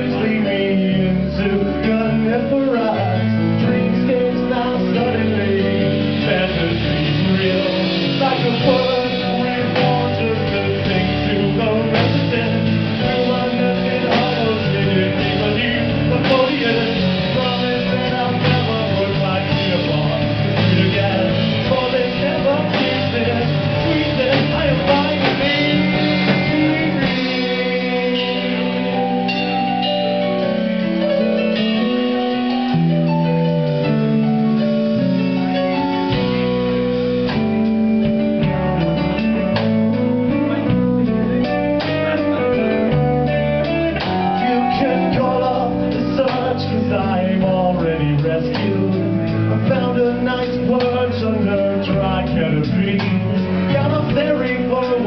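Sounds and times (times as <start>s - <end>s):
live band playing: 0.0s - 55.0s.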